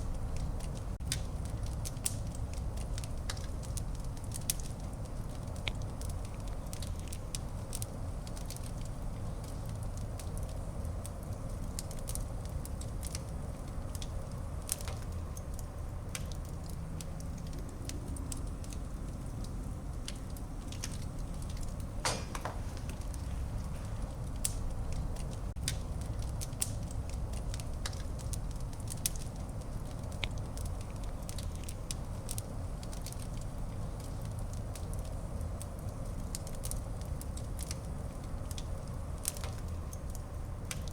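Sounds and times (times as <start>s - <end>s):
fire crackling and popping: 0.0s - 40.9s
fire rumbling in a fireplace: 0.0s - 40.9s.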